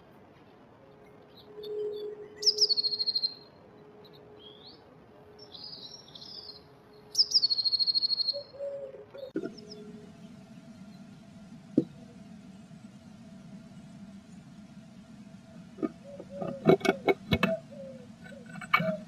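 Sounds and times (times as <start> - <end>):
soft bird twittering: 0.9 - 14.8, 15.7 - 19.0
bird singing trills: 1.0 - 14.6, 15.7 - 19.0.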